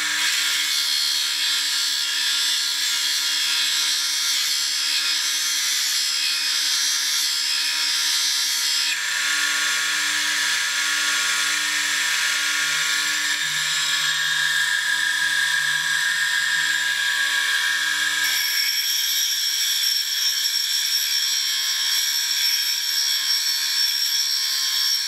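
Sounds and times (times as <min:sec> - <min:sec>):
tool grinding on diamond wheel: 0:00.0 - 0:25.0.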